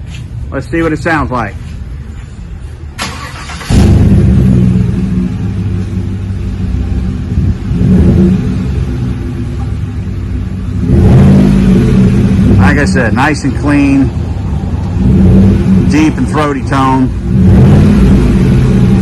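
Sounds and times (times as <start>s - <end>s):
deep throaty exhaust revving: 3.6s - 19.0s.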